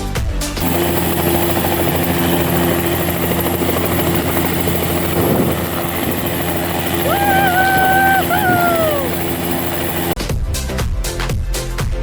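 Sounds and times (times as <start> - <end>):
helicopter drone: 0.5 - 10.2.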